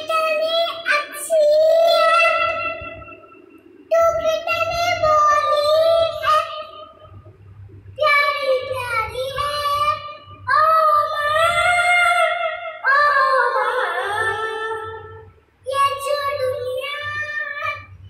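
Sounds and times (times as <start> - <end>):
boy singing: 0.0 - 3.2, 3.9 - 7.0, 8.0 - 18.0.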